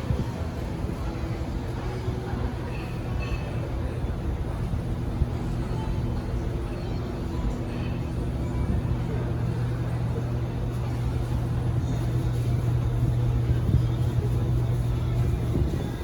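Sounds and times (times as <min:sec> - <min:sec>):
escalator mechanical hum: 0:00.0 - 0:16.0.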